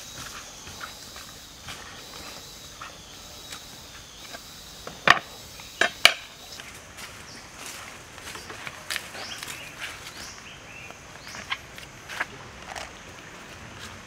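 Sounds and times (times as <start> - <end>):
faint insect buzz: 0.0 - 13.0.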